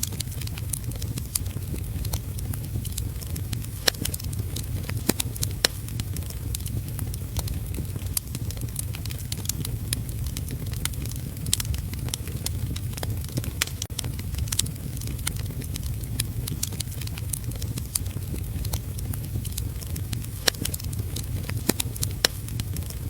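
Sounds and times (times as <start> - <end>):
faint heavy rain hiss: 0.0 - 23.0
wood fire crackling: 0.0 - 23.0.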